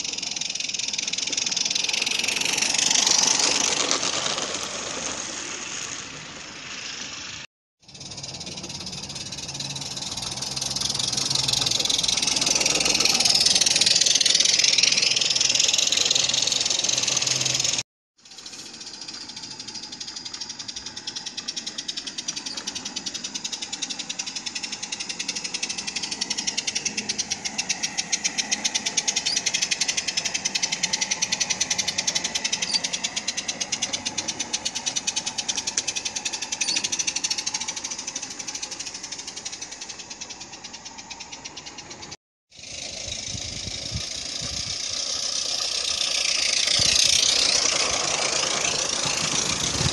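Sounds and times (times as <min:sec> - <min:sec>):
steam hiss: 0:00.0 - 0:07.5, 0:08.1 - 0:49.9
model steam locomotive chuffing: 0:00.0 - 0:49.9.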